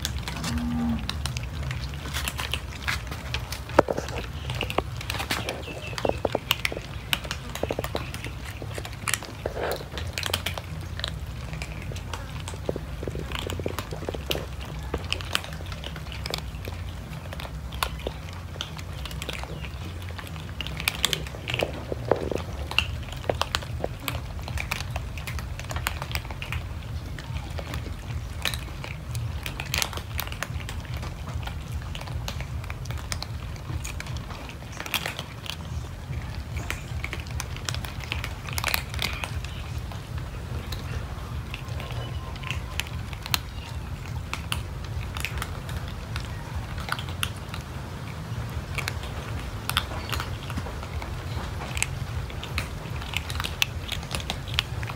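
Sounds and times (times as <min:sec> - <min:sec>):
cats crunching dry kibble: 0:00.0 - 0:54.9.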